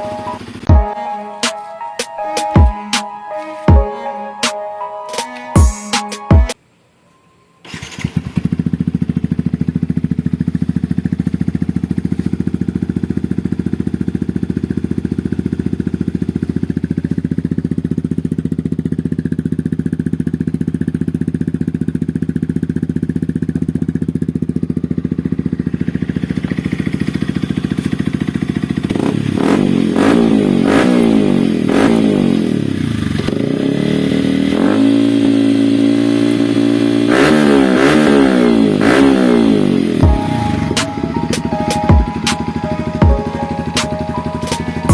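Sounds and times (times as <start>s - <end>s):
motorcycle engine idling and revving: 0.0s - 1.0s, 7.7s - 44.9s.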